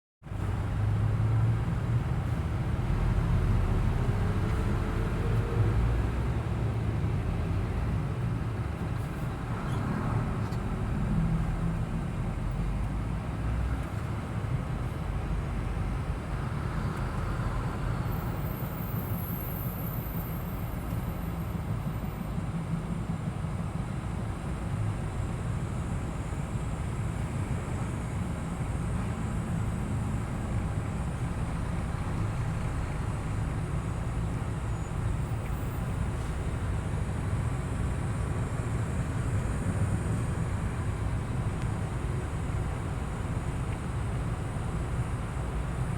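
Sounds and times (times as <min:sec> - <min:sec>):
trucks passing: 0:00.3 - 0:45.9.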